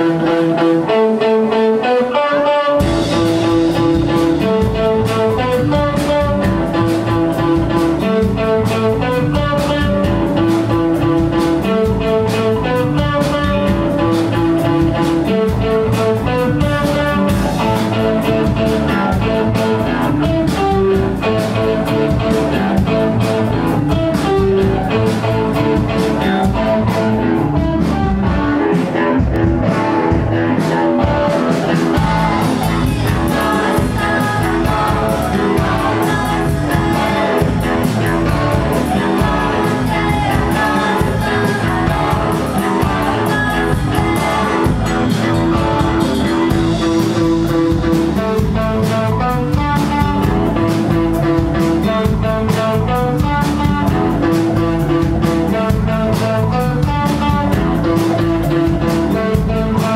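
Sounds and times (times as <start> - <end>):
bass guitar: 0.0 - 59.9
drums: 0.0 - 59.9
electric guitar riff: 0.0 - 59.9.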